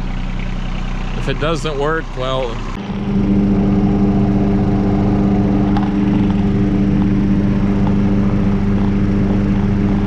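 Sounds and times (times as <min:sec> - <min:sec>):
lawnmower engine running: 0:00.0 - 0:10.0.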